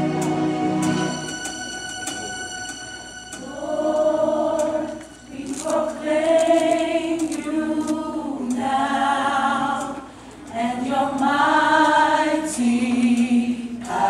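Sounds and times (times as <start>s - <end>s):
choir singing held notes: 0.0s - 14.0s.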